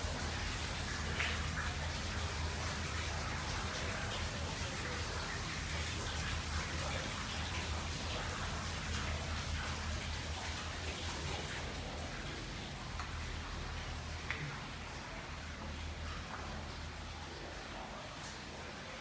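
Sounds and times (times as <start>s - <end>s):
light rain-like ticks: 0.0s - 19.0s.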